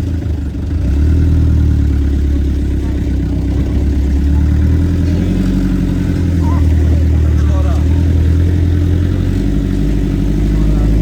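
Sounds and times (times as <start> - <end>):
vehicle engine low hum: 0.0 - 11.0.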